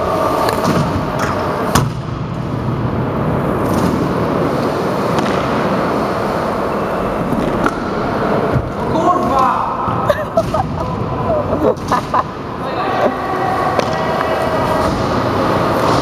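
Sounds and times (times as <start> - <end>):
hard wheels rolling on ramp: 0.0 - 11.2, 13.4 - 16.0.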